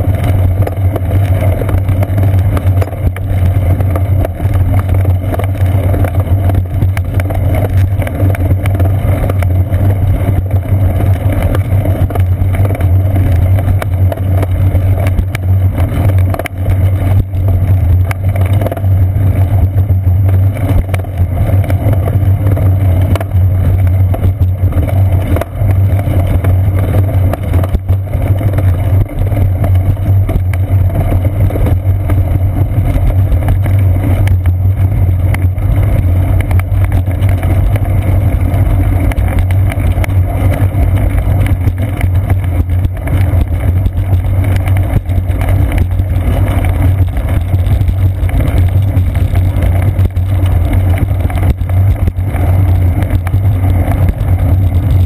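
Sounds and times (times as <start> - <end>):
bicycle rolling over concrete: 0.0 - 55.0
wind rumble: 0.0 - 55.0.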